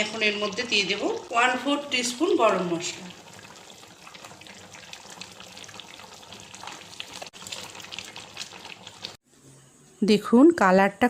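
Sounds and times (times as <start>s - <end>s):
curry bubbling and sizzling: 0.0s - 9.2s.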